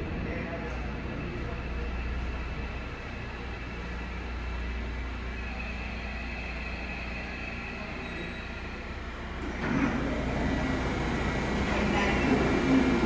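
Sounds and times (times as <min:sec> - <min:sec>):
electric train braking to a stop: 0:01.6 - 0:13.0.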